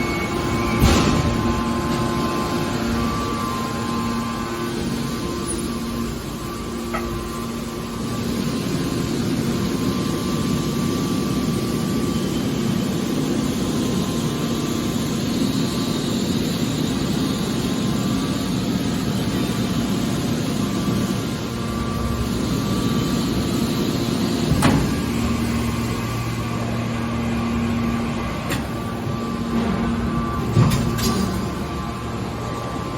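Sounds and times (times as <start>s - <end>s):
baler machine hum: 0.0s - 32.9s.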